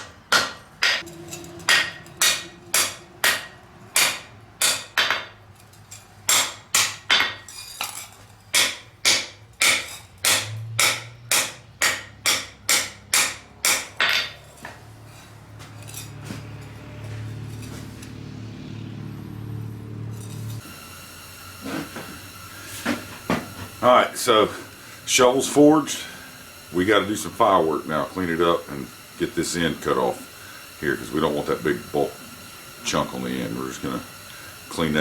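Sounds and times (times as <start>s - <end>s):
steady low hum: 0.0s - 6.8s, 7.8s - 35.0s
hammer striking steel on anvil: 0.0s - 18.1s, 20.1s - 35.0s.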